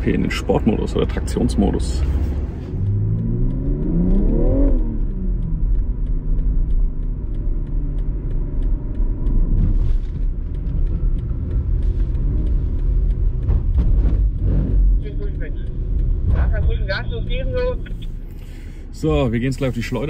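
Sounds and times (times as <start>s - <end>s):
car engine revving: 0.0s - 20.0s
road rumble: 0.0s - 20.0s.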